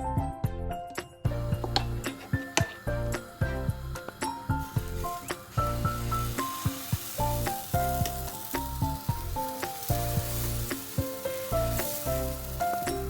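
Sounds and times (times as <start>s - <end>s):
background music: 0.0s - 13.0s
food sizzling in a frying pan: 1.3s - 13.0s.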